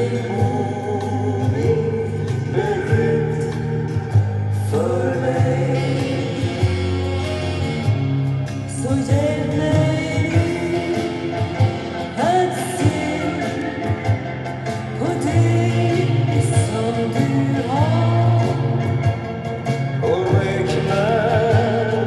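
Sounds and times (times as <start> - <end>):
pop song with vocals: 0.0 - 22.0.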